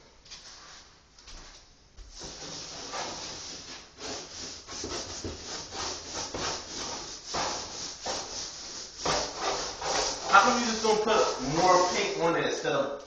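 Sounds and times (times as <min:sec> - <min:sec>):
hand rubbing strokes on surface: 0:00.4 - 0:12.6.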